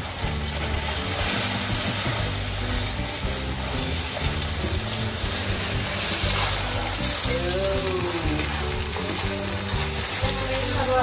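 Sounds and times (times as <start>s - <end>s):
background music: 0.0s - 11.0s
food sizzling in a wok: 0.0s - 11.0s
spatula stirring: 0.0s - 11.0s.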